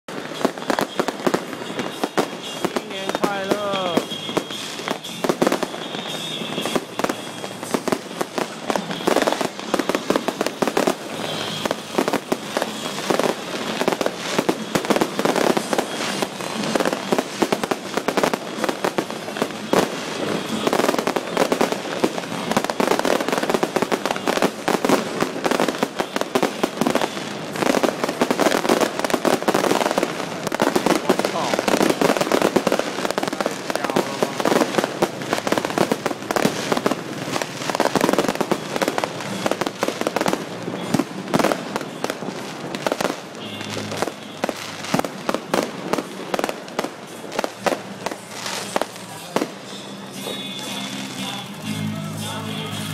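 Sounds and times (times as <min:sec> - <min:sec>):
fireworks banging and crackling: 0:00.0 - 0:52.9.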